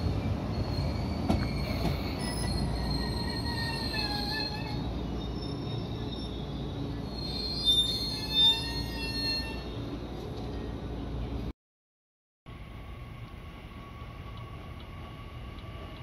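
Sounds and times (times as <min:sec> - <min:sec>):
train wheels rumbling and squealing: 0:00.0 - 0:11.5, 0:13.4 - 0:16.0.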